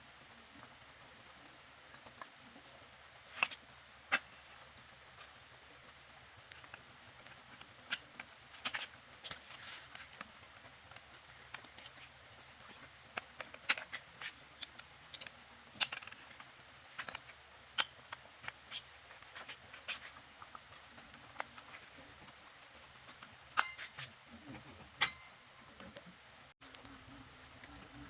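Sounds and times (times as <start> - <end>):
faint high-pitched hiss: 0.0 - 28.0
small tools clicking and tapping: 1.9 - 5.9, 6.5 - 27.0.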